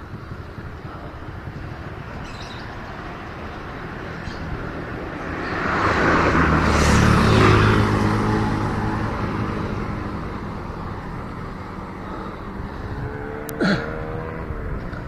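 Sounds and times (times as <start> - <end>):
motor vehicle passing by: 2.2 - 15.0.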